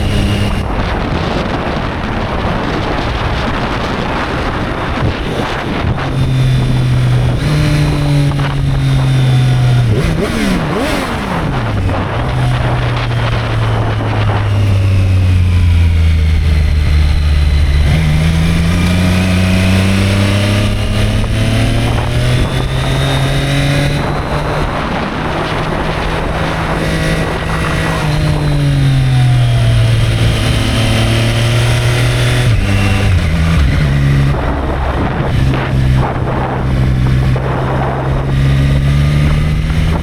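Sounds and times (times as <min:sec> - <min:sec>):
motorcycle engine running: 0:00.0 - 0:40.0
wind noise: 0:00.0 - 0:40.0.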